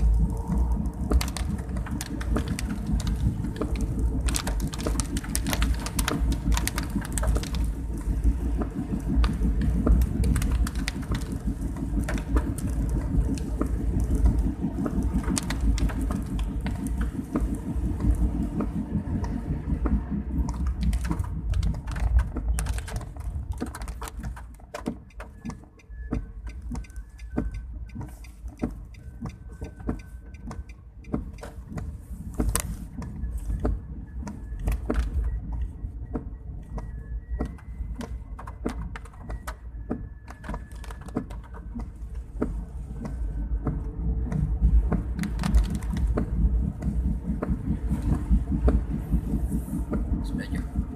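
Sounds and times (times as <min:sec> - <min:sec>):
raindrop ticks: 0:00.0 - 0:50.9
vehicle road and engine rumble: 0:00.0 - 0:50.9.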